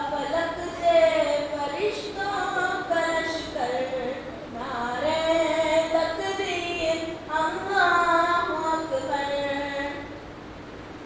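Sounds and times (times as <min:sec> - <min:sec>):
young person singing unaccompanied: 0:00.0 - 0:10.1.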